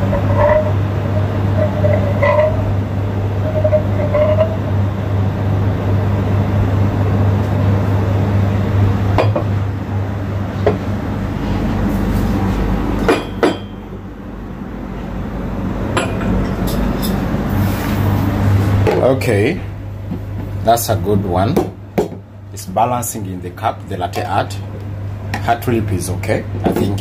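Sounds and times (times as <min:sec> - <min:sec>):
low hum and hiss: 0:00.0 - 0:27.0.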